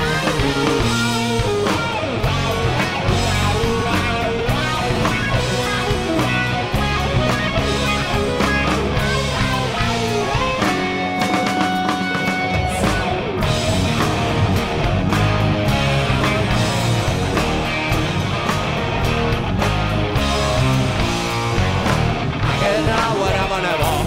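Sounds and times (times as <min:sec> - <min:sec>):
guitar-led band music: 0:00.0 - 0:24.0.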